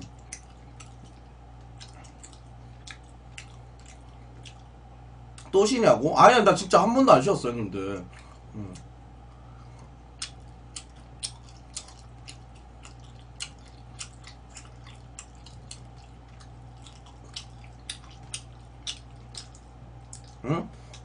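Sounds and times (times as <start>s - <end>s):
man chewing: 0.0s - 5.5s, 8.1s - 21.0s
faint electrical hum: 0.0s - 21.0s.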